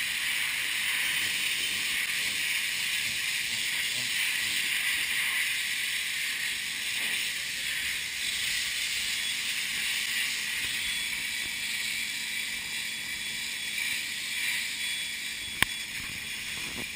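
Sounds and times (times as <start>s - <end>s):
pressure washer jet hissing: 0.0s - 16.9s.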